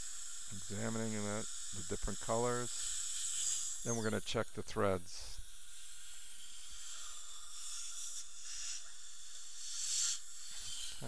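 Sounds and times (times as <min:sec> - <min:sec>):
dental suction hissing: 0:00.0 - 0:11.0.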